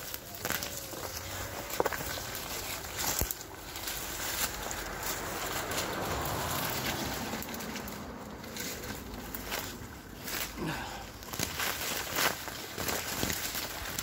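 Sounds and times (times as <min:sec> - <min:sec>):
footsteps through rustling undergrowth: 0:00.0 - 0:14.0
twigs snapping: 0:00.0 - 0:14.0.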